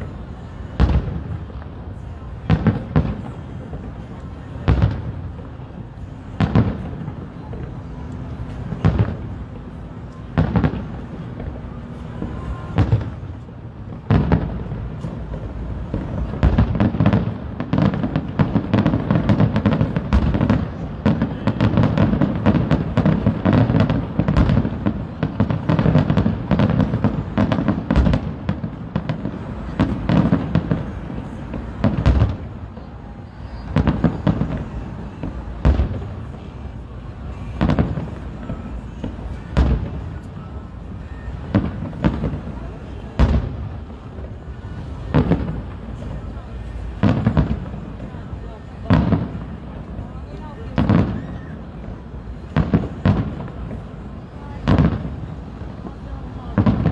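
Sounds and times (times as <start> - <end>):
fireworks booming and crackling: 0.0 - 56.9.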